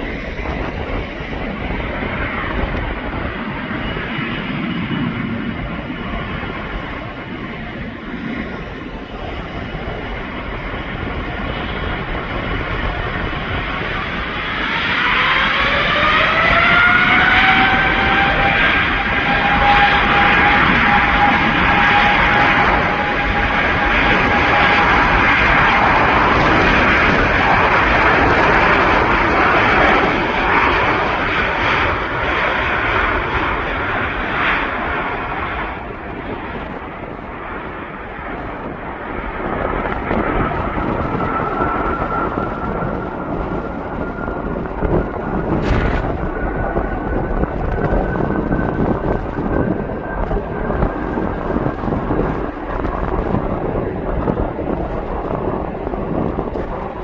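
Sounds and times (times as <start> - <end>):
airplane engines: 0.0 - 57.0.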